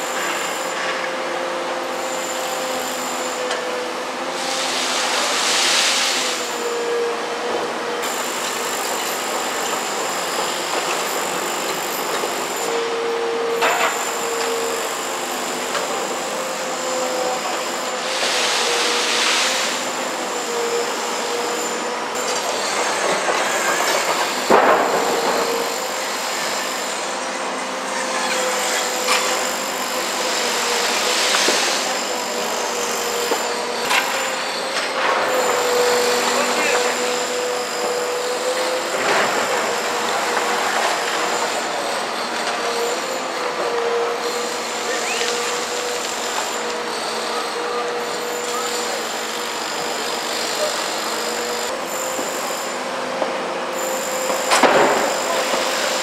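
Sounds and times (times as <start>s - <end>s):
excavator engine and hydraulics whine: 0.0s - 56.0s.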